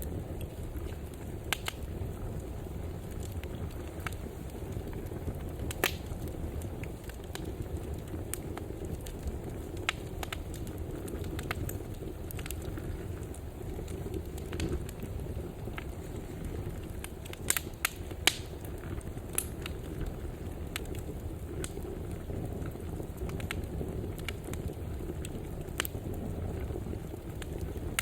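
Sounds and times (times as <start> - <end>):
fire crackling and popping: 0.0 - 28.0
low rumble of fire: 0.0 - 28.0.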